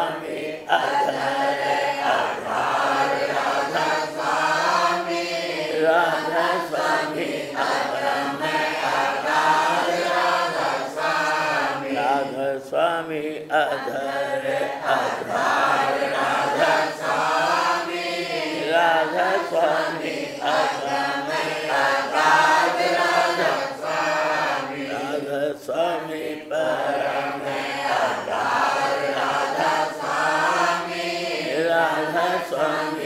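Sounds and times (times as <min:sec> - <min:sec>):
voices chanting together: 0:00.0 - 0:33.0.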